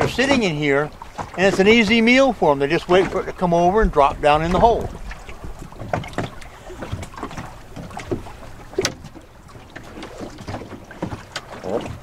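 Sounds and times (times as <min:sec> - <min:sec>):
small splashes and knocks: 0:00.0 - 0:12.0
water lapping against boat hull: 0:00.0 - 0:12.0.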